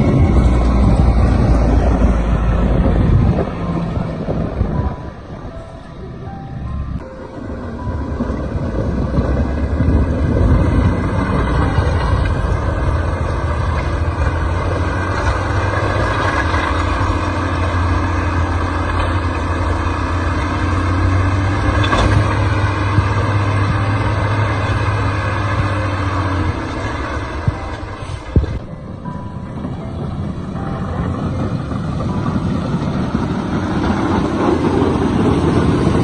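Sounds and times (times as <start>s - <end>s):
snow-clearing machine engine: 0.0s - 36.0s.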